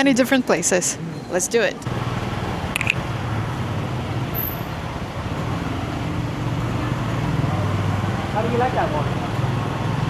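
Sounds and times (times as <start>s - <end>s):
road noise: 0.0s - 10.0s
motorbike engine hum: 1.8s - 10.0s.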